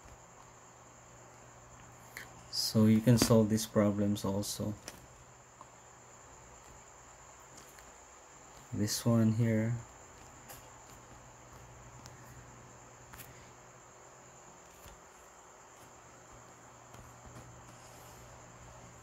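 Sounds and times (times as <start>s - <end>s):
faint high-pitched whine: 0.0s - 19.0s.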